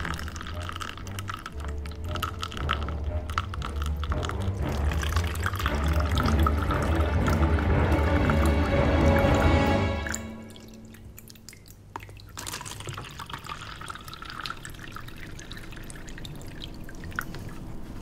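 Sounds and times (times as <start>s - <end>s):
liquid pouring into a paper cup: 0.0s - 18.0s.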